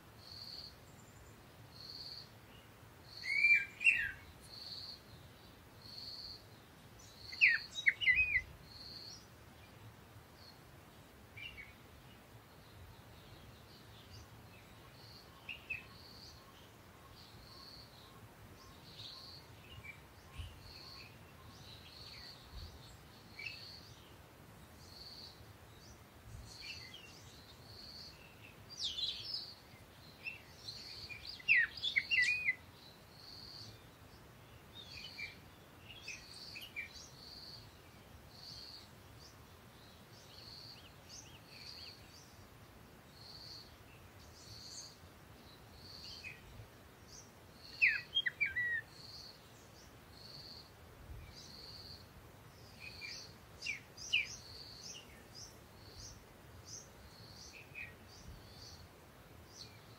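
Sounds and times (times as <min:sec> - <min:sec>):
birds chirping: 0:00.3 - 0:59.9.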